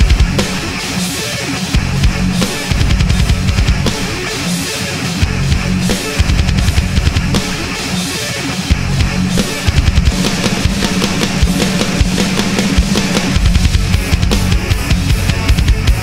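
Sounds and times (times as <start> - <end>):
distorted metal guitars: 0.0 - 16.0
drum kit playing: 0.0 - 16.0.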